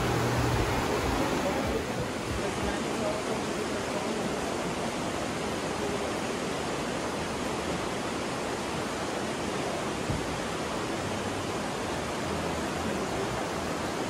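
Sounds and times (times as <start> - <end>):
river rushing through gorge: 0.0 - 14.0.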